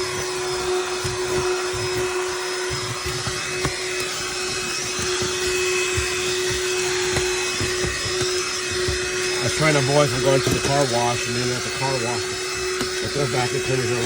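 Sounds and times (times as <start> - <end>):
handheld vacuum motor whine: 0.0 - 14.0.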